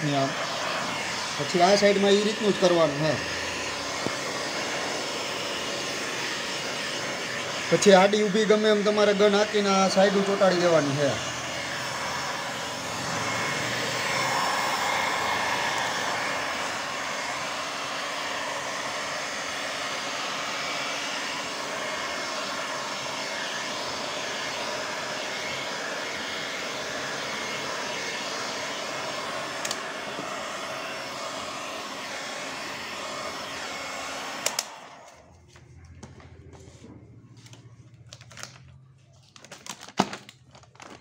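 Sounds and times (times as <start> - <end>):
hot air gun blowing: 0.0 - 35.3.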